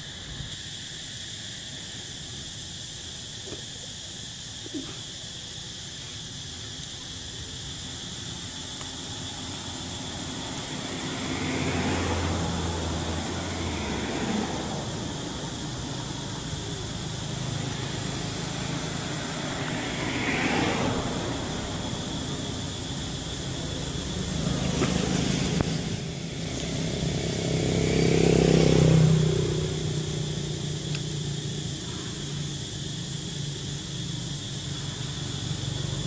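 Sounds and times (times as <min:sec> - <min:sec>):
vehicles passing by: 0:03.6 - 0:36.0.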